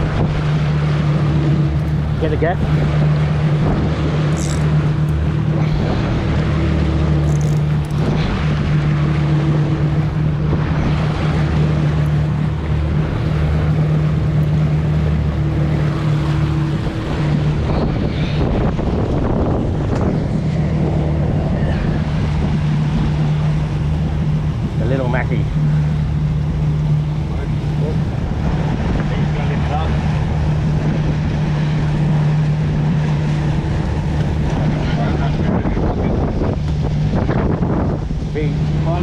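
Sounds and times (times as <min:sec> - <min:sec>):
outboard motor running: 0:00.0 - 0:39.0
wind buffeting microphone: 0:00.0 - 0:39.0.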